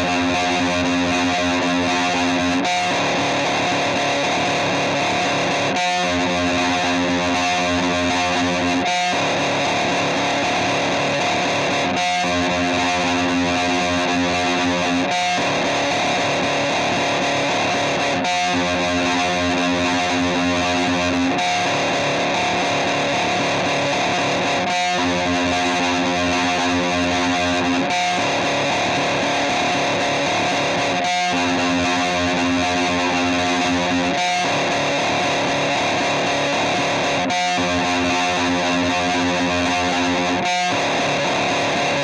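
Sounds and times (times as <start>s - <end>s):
distorted electric guitar chords: 0.0s - 42.0s.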